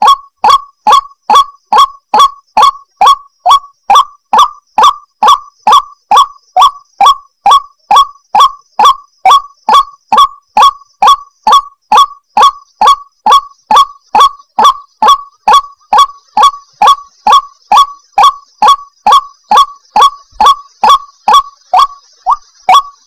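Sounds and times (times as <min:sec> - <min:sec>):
waterhen calling harsh notes: 0:00.0 - 0:23.0.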